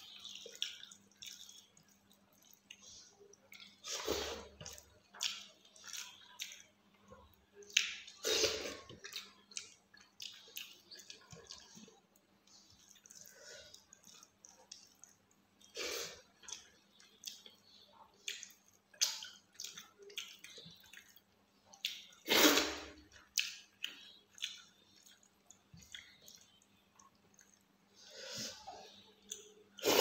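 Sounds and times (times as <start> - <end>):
food squishing by hand: 0.0 - 30.0
wet chewing: 0.0 - 30.0.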